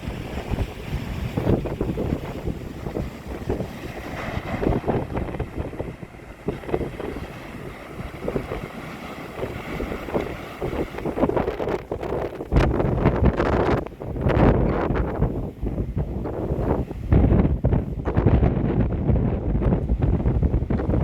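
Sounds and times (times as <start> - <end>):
gusty wind buffeting microphone: 0.0 - 21.0
rough surf: 0.0 - 21.0.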